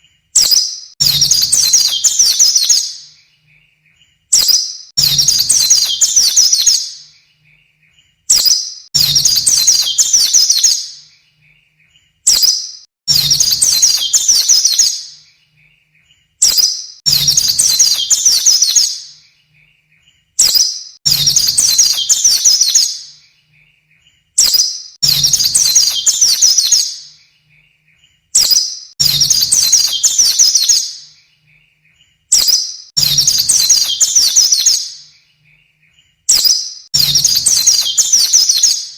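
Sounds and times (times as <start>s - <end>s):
white-eye bird song: 0.0s - 38.9s.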